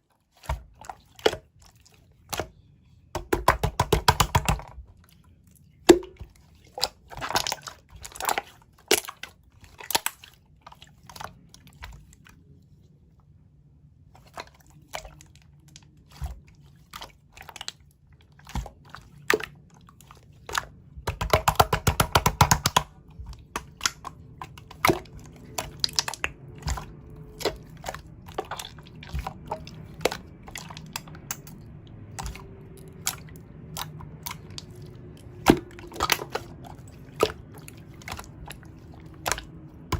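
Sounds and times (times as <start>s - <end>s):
slime squishing with sticky pops: 3.2s - 5.0s, 5.6s - 12.2s, 14.2s - 39.9s.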